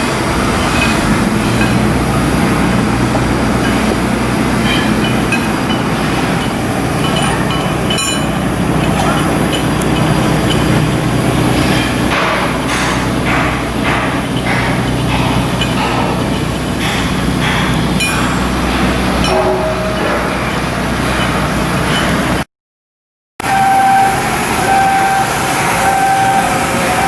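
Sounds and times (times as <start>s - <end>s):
machinery humming: 0.0s - 22.4s, 23.4s - 27.0s.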